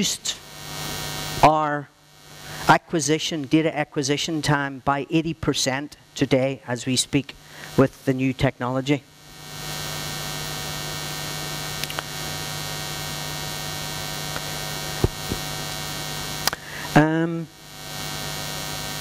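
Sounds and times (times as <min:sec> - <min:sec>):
electrical mains hum with hiss: 0:00.0 - 0:19.0.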